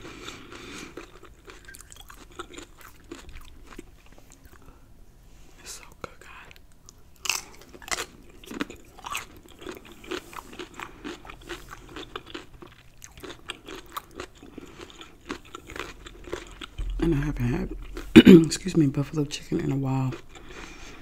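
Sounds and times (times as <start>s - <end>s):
crunching cucumber chewing: 0.0s - 4.7s, 6.8s - 18.6s, 20.1s - 21.0s.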